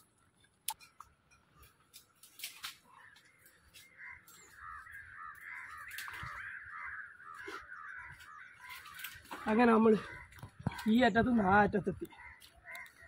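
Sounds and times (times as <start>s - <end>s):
birds chattering: 0.0s - 13.0s.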